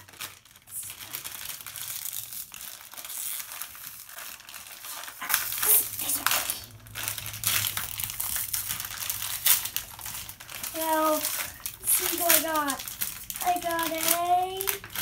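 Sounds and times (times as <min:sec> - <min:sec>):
foil bag crinkling and tearing: 0:00.0 - 0:15.0.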